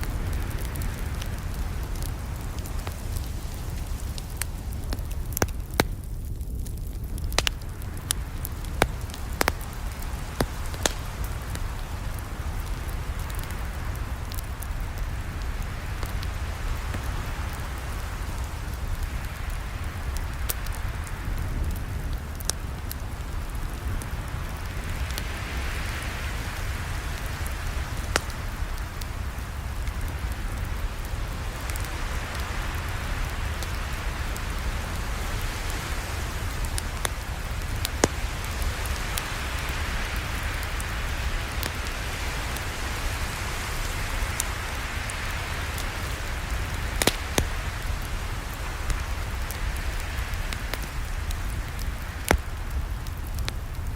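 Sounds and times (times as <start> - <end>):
wood popping and crackling: 0.0 - 26.0, 26.6 - 53.9
campfire burning: 0.0 - 53.9.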